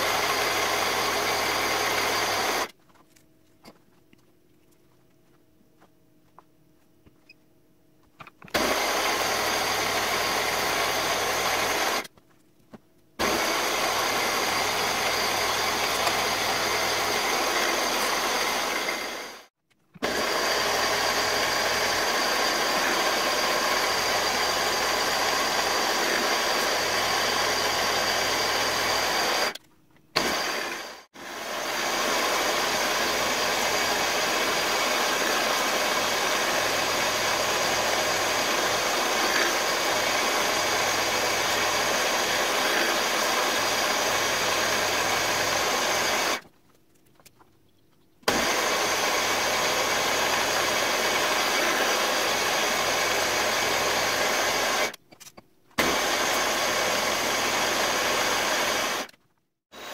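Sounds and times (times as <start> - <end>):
milling machine cutting metal: 0.0 - 2.7, 8.5 - 12.1, 13.2 - 29.6, 30.2 - 46.4, 48.3 - 55.0, 55.8 - 59.1.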